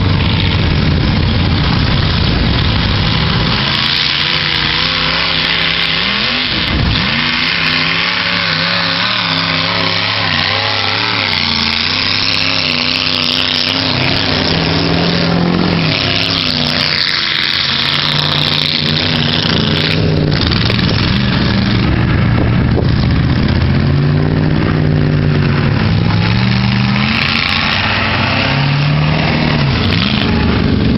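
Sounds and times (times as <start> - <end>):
truck engine revving: 0.0 - 30.9
tyres spinning in mud: 0.0 - 30.9.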